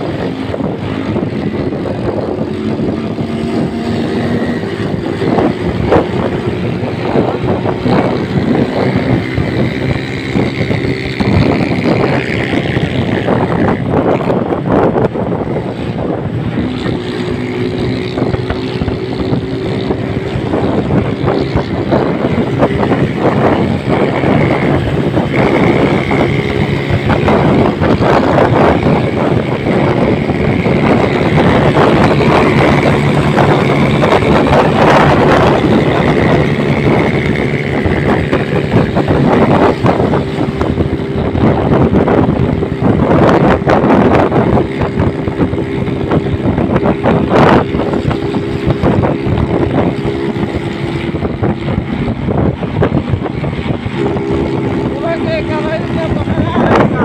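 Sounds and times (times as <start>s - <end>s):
motorcycle rickshaw engine running: 0.0s - 57.0s
wind buffeting microphone: 0.0s - 57.0s.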